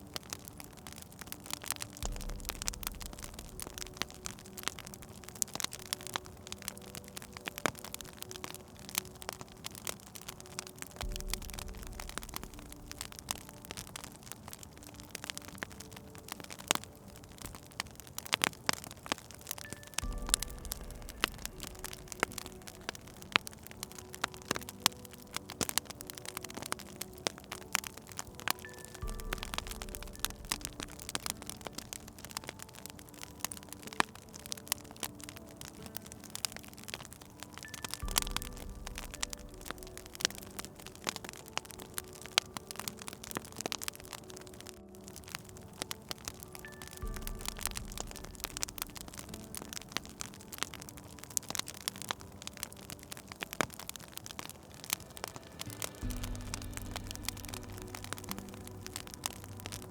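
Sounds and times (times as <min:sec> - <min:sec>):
faint held musical notes: 0:00.0 - 0:59.9
wood fire crackling: 0:00.0 - 0:59.9.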